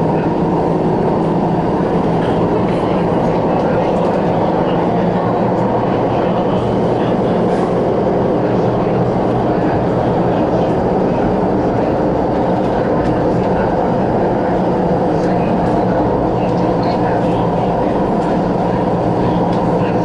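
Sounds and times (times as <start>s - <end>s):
electric train running rumble: 0.0s - 20.0s.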